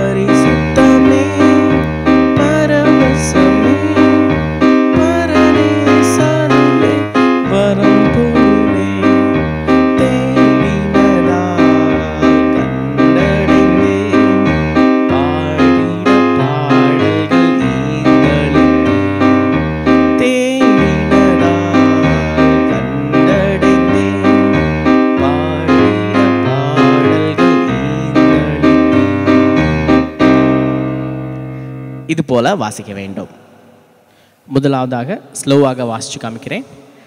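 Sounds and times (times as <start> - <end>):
electronic keyboard chords and bass: 0.0 - 32.2.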